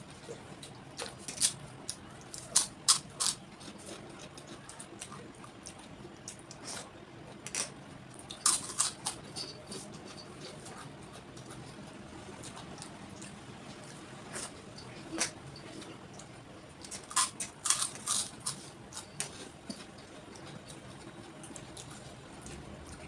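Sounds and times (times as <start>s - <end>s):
wet chewing and crunching: 0.1s - 23.0s.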